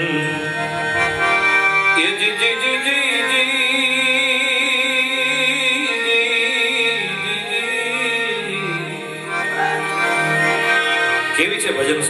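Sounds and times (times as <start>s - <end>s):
devotional ensemble instrumental: 0.0s - 12.0s.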